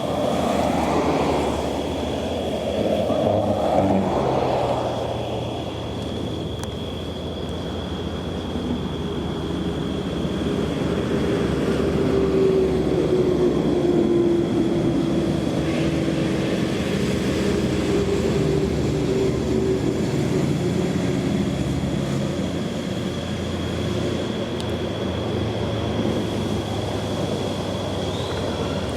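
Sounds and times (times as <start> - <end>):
heavy vehicle engine droning: 0.0 - 28.9.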